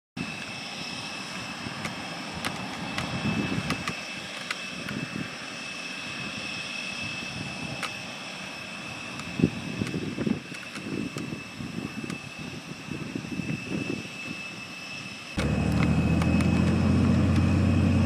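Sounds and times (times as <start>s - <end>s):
aircraft engines whining: 0.2s - 18.0s.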